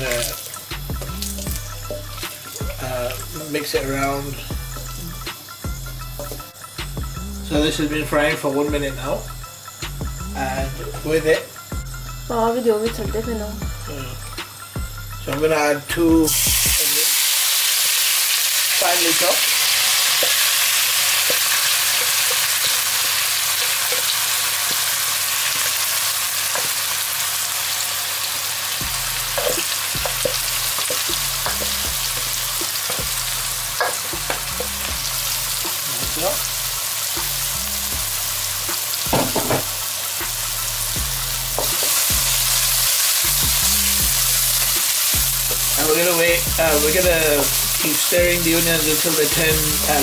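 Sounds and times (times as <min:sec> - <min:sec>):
onions sizzling in oil: 0:00.0 - 0:12.9, 0:16.2 - 0:50.0.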